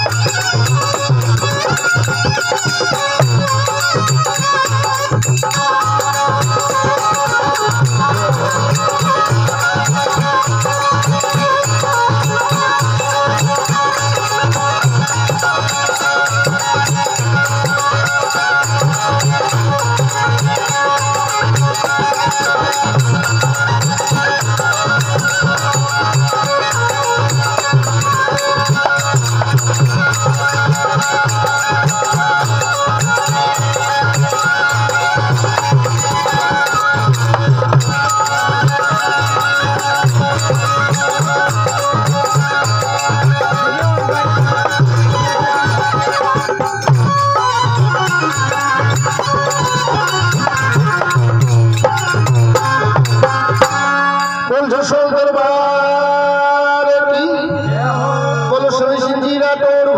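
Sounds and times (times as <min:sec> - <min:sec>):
rattling percussion: 0:00.0 - 0:55.7
instrumental folk melody: 0:00.0 - 0:56.5.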